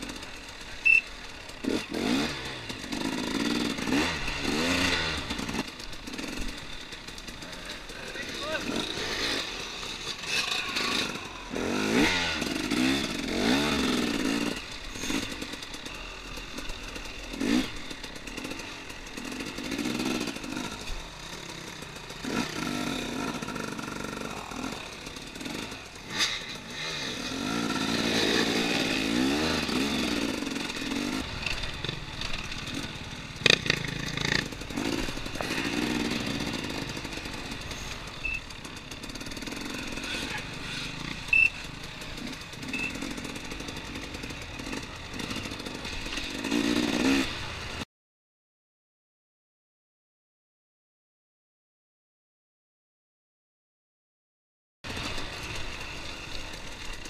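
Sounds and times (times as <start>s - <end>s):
dirt bike engine revving: 0.0s - 47.8s, 54.9s - 57.0s.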